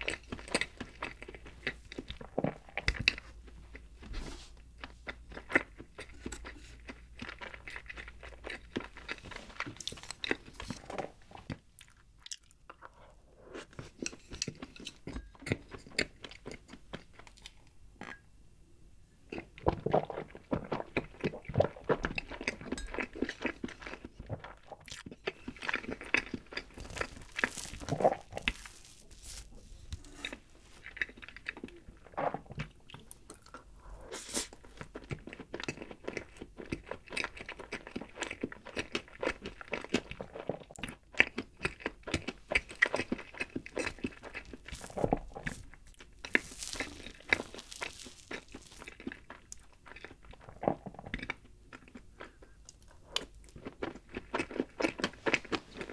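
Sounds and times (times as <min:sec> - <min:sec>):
chewing cake: 0:00.0 - 0:18.2, 0:19.3 - 0:55.9.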